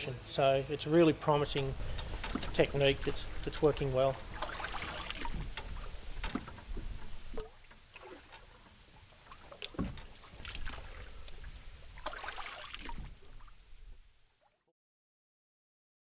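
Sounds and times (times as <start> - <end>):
water splashing and dripping: 1.4 - 14.6.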